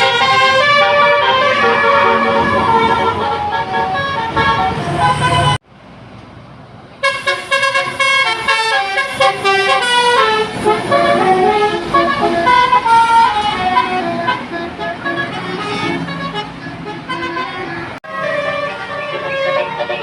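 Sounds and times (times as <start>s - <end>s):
multi-tone bus air horn tune: 0.0s - 5.6s, 7.0s - 20.0s.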